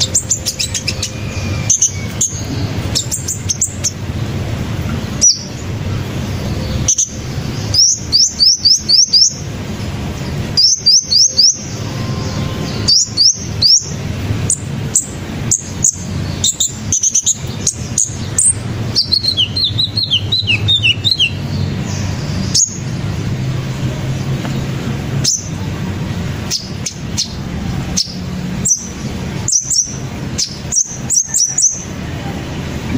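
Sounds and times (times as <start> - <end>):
sunbirds chirping: 0.0 - 32.9.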